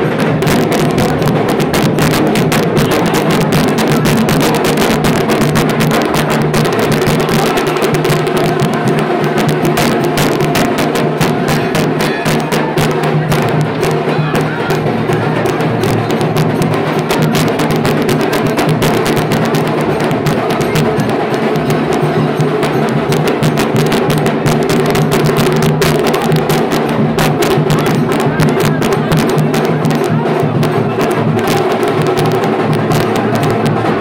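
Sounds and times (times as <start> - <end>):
band music with fast percussion: 0.0 - 34.0.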